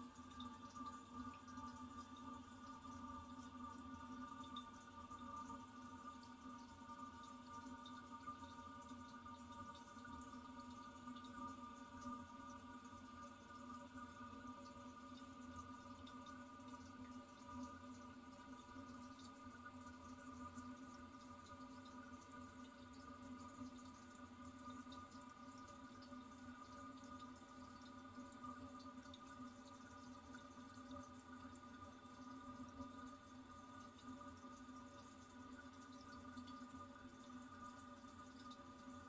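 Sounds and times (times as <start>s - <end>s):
small water drips: 0.0s - 39.0s.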